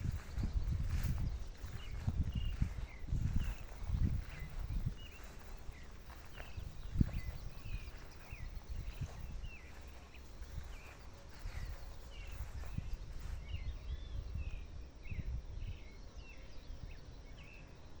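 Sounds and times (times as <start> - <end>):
steady low rumble: 0.0 - 17.9
birds chirping: 0.0 - 18.0.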